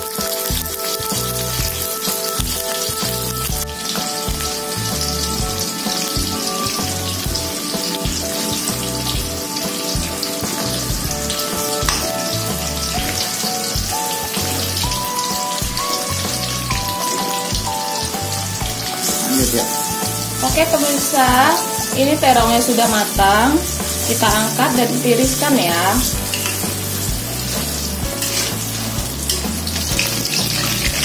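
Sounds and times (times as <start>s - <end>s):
background music: 0.0s - 31.0s
eggplant deep-frying in oil: 0.0s - 31.0s.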